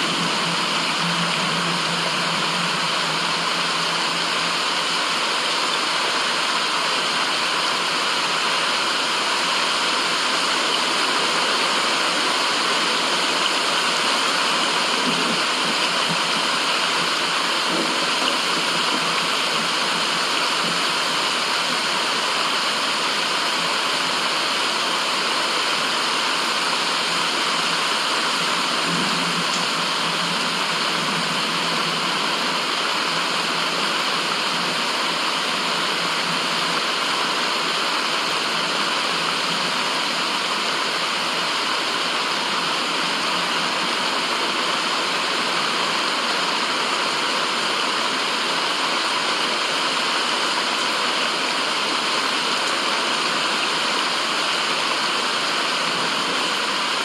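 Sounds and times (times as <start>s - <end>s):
white-noise hiss: 0.0s - 57.0s.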